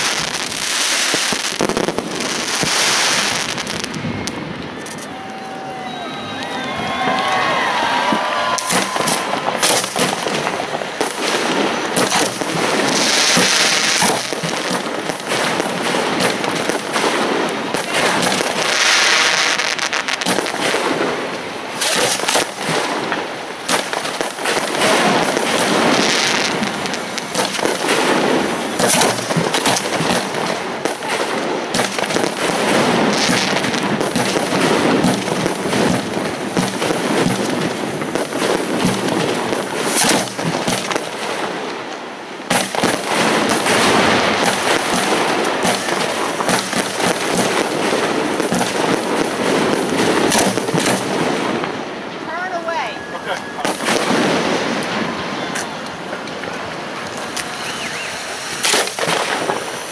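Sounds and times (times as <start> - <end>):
fireworks mortars banging: 0.0 - 59.9.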